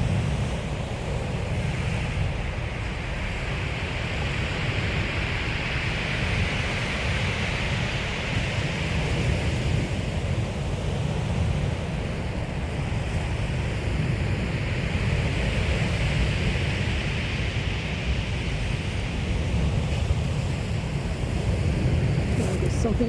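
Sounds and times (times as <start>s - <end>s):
waves on a shingle beach: 0.0s - 23.0s.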